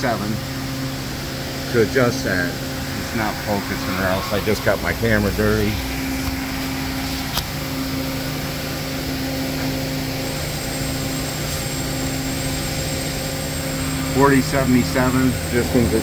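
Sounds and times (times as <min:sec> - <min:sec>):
faint high whine: 0:00.0 - 0:16.0
lathe machine hum: 0:00.0 - 0:16.0.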